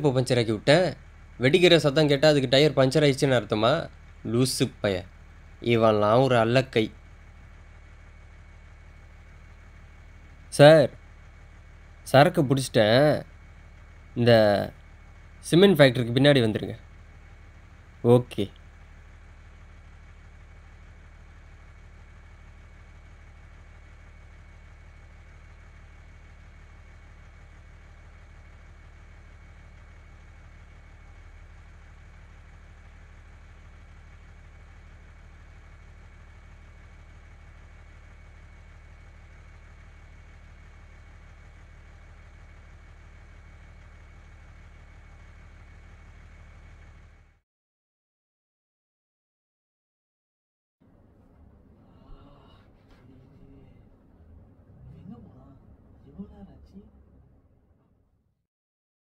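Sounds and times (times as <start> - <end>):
vehicle engine droning: 0.0 - 47.4, 50.8 - 58.0.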